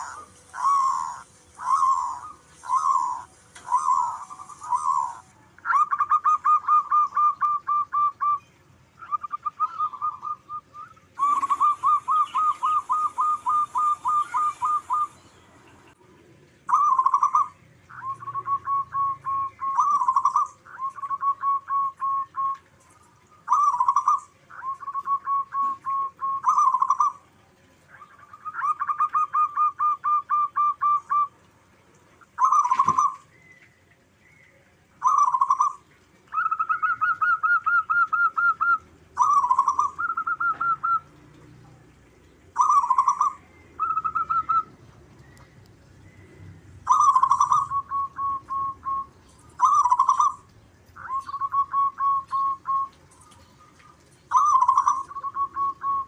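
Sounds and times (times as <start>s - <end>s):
doves cooing: 0.0s - 8.4s, 9.0s - 34.0s, 34.6s - 41.6s, 42.3s - 56.0s.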